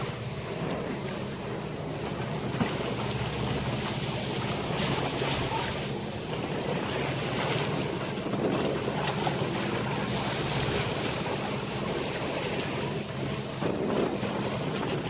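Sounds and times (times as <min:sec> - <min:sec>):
sea water rushing along hull: 0:00.0 - 0:15.0
wind buffeting microphone: 0:00.0 - 0:15.0.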